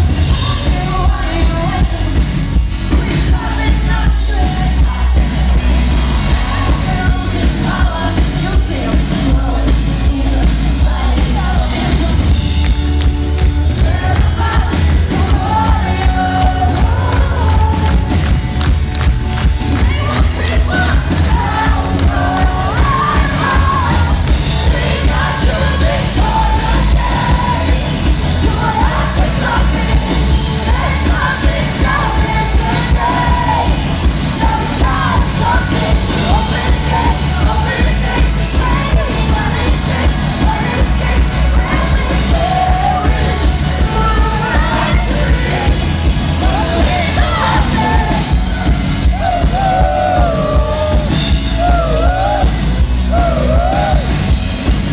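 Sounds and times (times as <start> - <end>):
pop-rock band playing live: 0.0 - 54.9
woman singing into a microphone: 0.2 - 5.3, 6.2 - 12.7, 13.7 - 18.1, 19.8 - 52.5.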